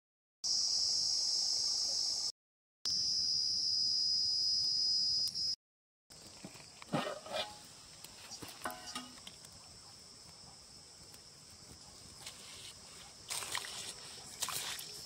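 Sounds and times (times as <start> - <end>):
insects chirring: 0.5 - 2.3, 2.9 - 15.0.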